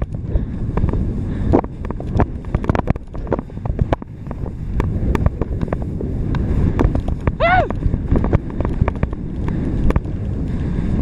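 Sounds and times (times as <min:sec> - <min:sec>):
skis scraping over snow: 0:00.0 - 0:11.0
wind over microphone: 0:00.0 - 0:11.0.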